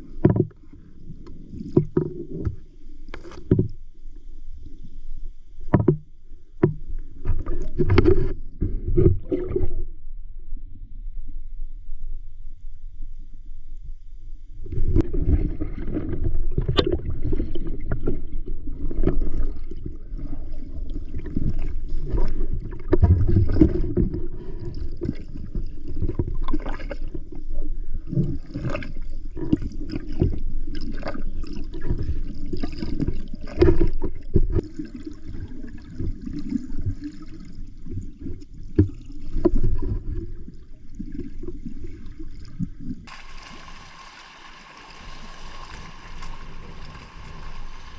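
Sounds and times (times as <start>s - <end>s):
muffled water sloshing and gurgling: 0.0s - 47.9s.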